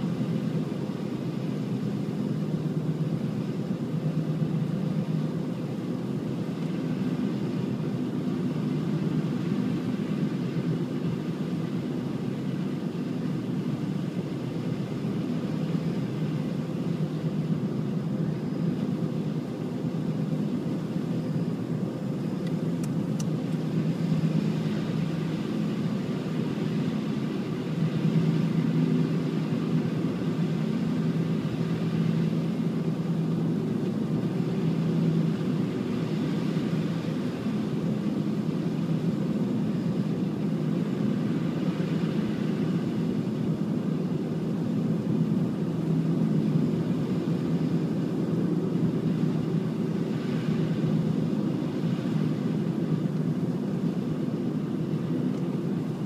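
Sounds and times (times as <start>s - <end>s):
vehicle engine hum: 0.0s - 56.0s.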